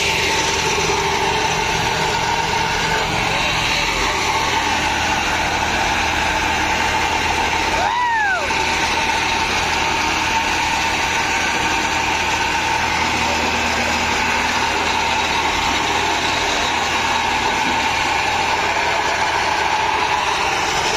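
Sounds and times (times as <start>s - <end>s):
machine drone: 0.0s - 20.9s.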